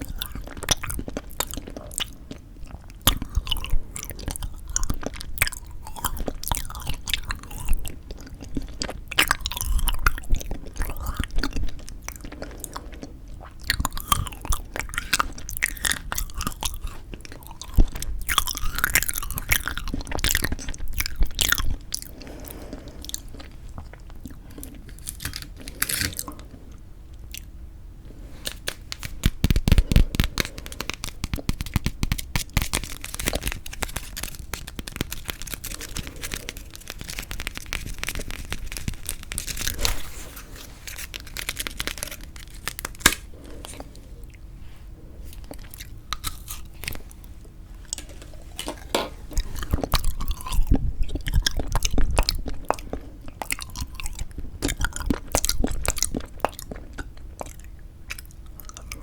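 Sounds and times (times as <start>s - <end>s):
crunching and wet chewing: 0.0s - 59.0s.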